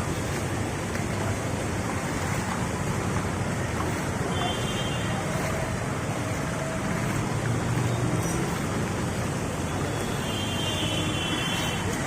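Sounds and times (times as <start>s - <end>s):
traffic on wet road: 0.0s - 12.0s.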